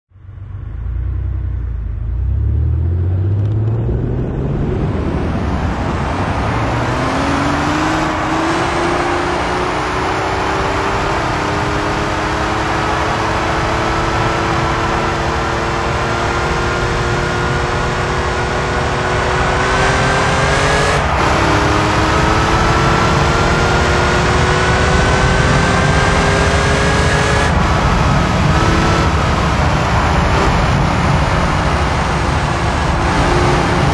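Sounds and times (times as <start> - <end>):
car engine accelerating and upshifting: 0.1 - 33.9
road and wind noise: 0.1 - 33.9.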